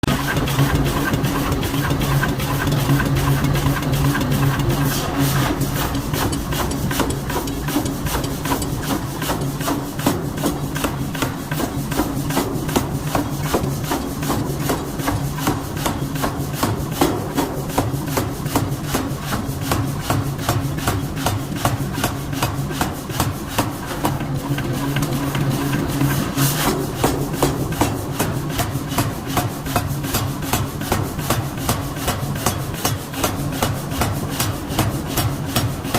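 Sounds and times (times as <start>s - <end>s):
low machine hum: 0.0s - 35.9s.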